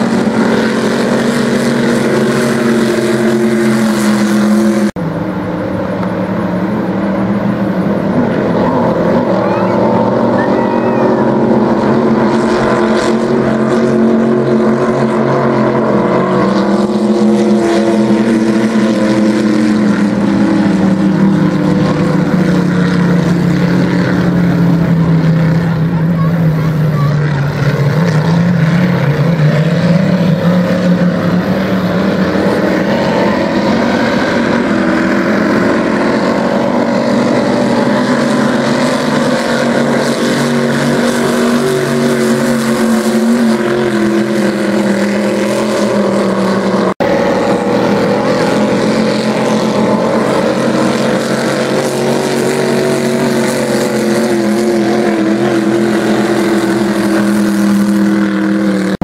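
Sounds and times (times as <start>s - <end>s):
racing boat engines running hard: 0.0s - 59.0s.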